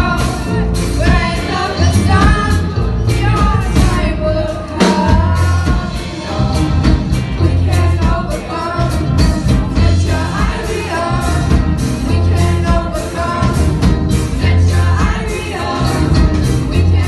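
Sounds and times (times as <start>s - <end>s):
live band bass and drums: 0.0s - 17.0s
singers: 0.0s - 17.0s.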